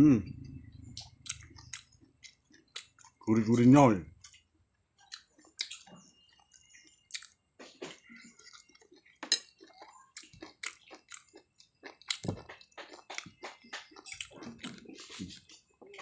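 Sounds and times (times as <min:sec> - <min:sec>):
person chewing: 0:00.9 - 0:16.0.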